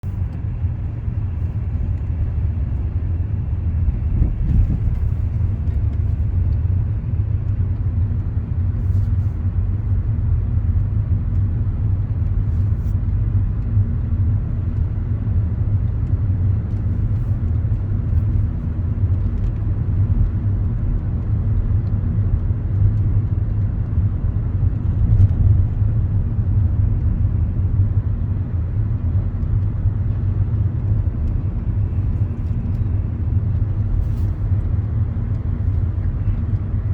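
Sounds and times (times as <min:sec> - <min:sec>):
steady low rumble with hum: 0:00.0 - 0:36.9.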